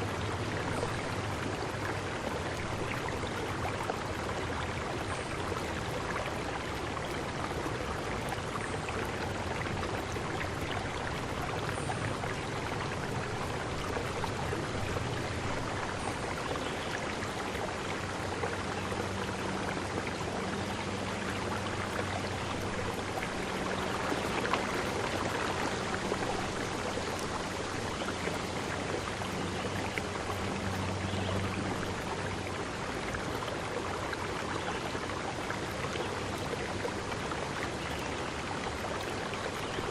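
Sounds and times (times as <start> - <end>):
low steady hum: 0.0 - 39.9
water rushing: 0.0 - 39.9.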